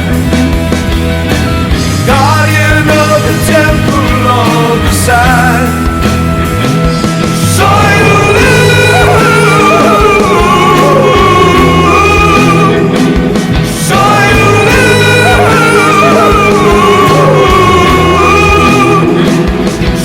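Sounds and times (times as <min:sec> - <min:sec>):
loud rock band music: 0:00.0 - 0:20.0.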